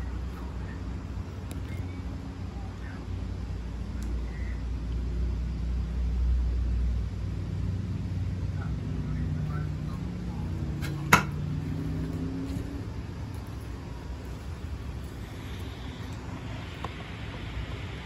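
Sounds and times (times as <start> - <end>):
low rumbling hum: 0.0 - 18.0.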